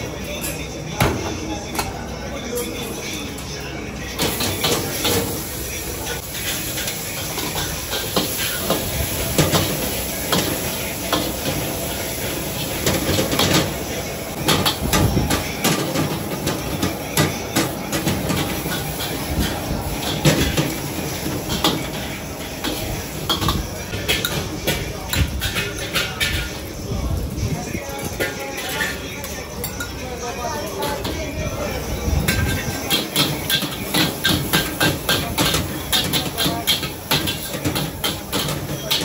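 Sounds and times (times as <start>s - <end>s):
food sizzling: 4.2s - 39.0s.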